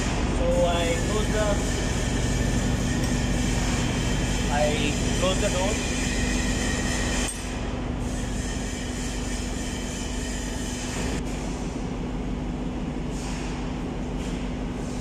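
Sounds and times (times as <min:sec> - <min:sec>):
engine-room machinery rumble: 0:00.0 - 0:15.0.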